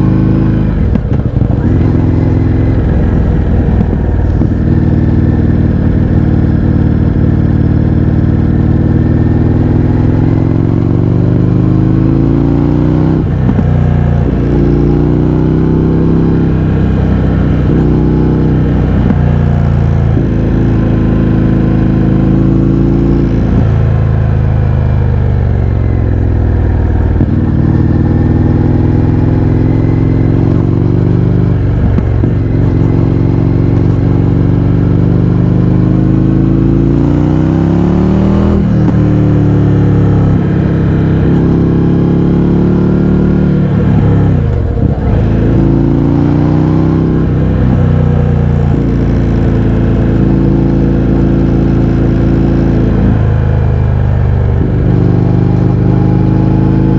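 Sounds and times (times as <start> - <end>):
motorcycle engine revving loud: 0.0 - 56.9.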